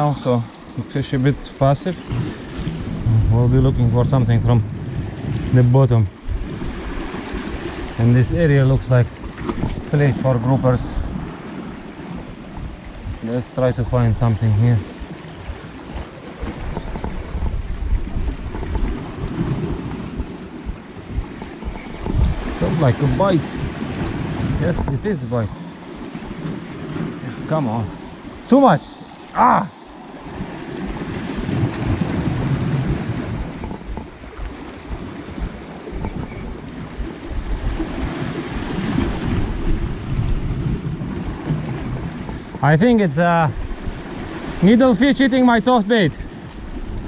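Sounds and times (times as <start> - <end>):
sea washing on rocky shore: 0.0 - 47.0
wind buffeting microphone: 0.7 - 47.0.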